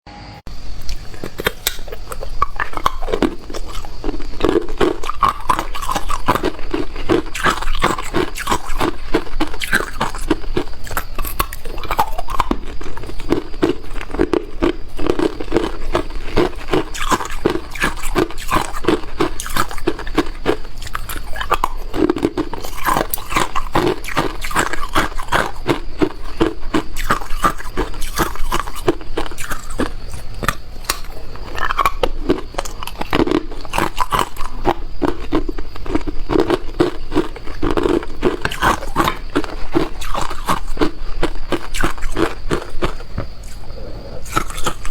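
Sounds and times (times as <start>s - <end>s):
ice being chewed: 0.5s - 44.9s.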